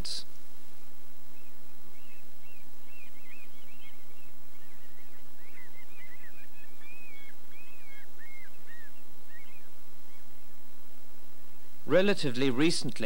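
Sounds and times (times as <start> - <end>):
birds calling: 0.0 - 13.0
steady low hum: 0.0 - 13.0.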